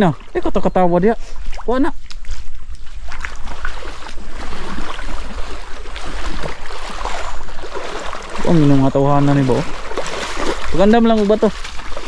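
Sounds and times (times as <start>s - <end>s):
water sloshing and splashing: 0.0s - 12.0s
wind rumbling on microphone: 0.0s - 12.0s.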